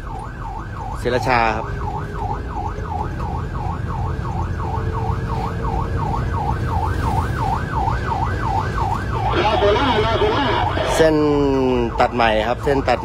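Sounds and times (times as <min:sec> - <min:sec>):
engine and road rumble: 0:00.0 - 0:13.0
siren yelping: 0:00.0 - 0:13.0.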